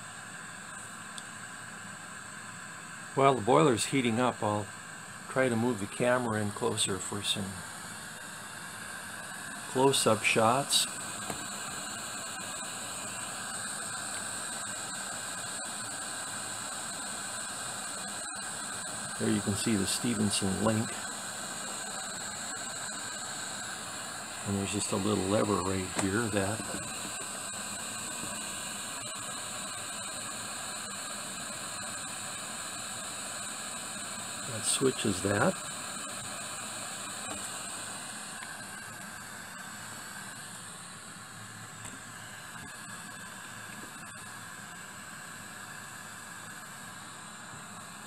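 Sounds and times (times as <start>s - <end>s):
torch flame hissing: 0.1s - 48.0s.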